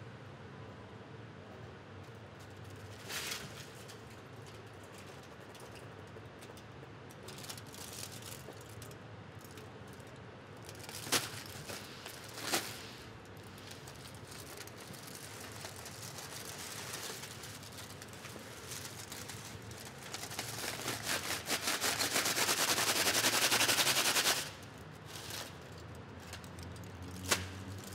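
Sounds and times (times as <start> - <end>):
objects rustling and crackling: 2.0 - 27.9.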